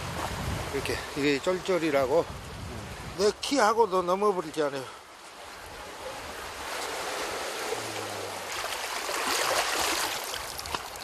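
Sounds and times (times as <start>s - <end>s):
sea surf washing over rocks: 0.0s - 11.0s.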